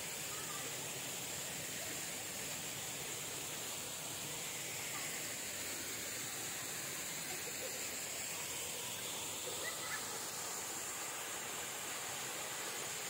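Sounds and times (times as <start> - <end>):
mountain stream and waterfall: 0.0 - 13.0.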